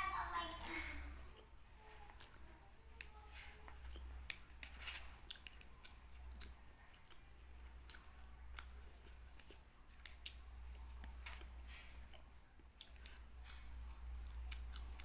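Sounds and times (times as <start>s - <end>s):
close-up chewing with mouth clicks: 1.3s - 15.0s.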